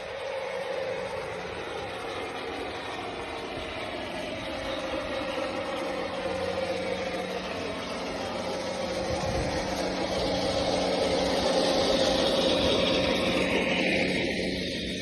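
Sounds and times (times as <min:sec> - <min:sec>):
toy tank mechanical running: 0:00.0 - 0:15.0.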